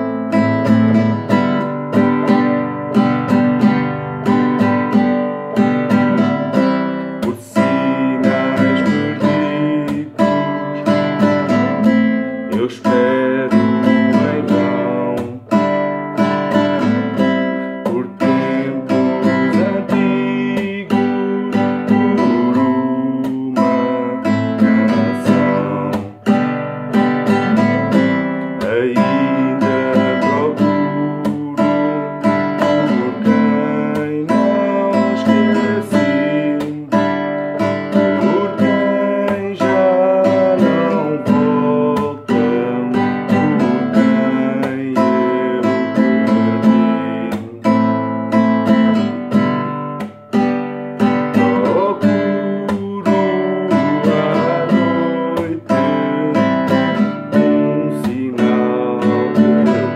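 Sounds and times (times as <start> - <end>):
man singing: 0.0 - 49.8, 51.0 - 59.9
classical guitar strummed chords: 0.0 - 59.9.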